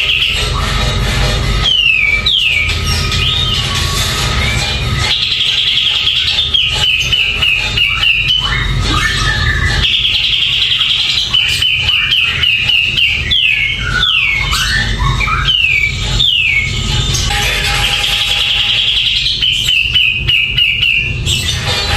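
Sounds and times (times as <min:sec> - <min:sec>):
bulbul singing whistled notes: 0:01.6 - 0:17.3, 0:18.1 - 0:21.7.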